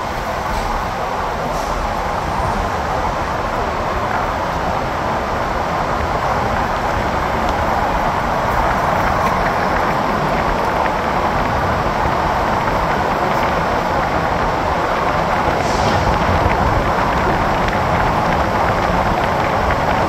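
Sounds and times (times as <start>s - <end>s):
car traffic in a tunnel: 0.0s - 20.0s.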